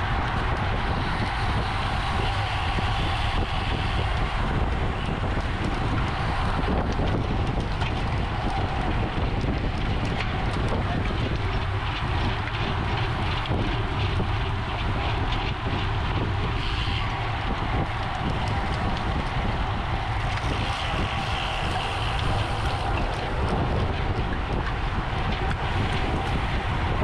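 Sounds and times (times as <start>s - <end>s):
road and tyre noise: 0.0s - 27.0s
wind rushing over microphone: 0.0s - 27.0s.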